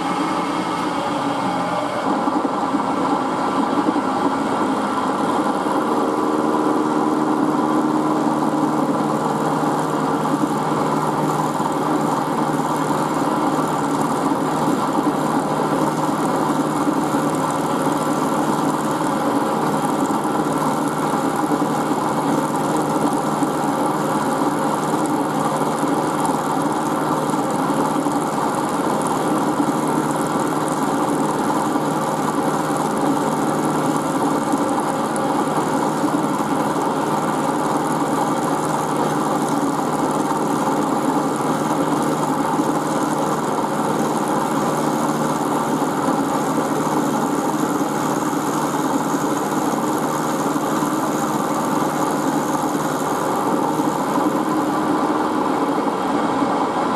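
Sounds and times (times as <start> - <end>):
milling machine cutting steel: 0.0 - 55.4.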